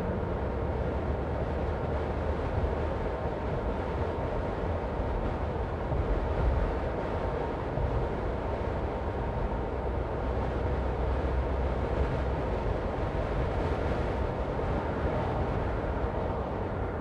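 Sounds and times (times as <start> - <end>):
car driving road noise: 0.0 - 17.0.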